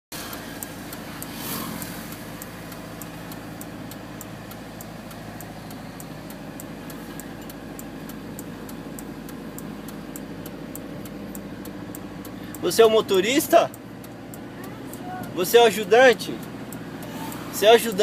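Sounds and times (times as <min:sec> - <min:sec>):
truck engine idling: 0:00.1 - 0:18.0
light regular ticking: 0:00.2 - 0:18.0.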